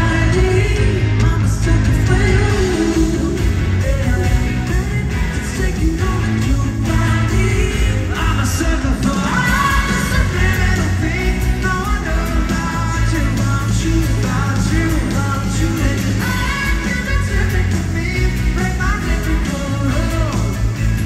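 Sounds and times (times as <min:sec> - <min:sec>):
live pop-rock band with singing: 0:00.0 - 0:21.0.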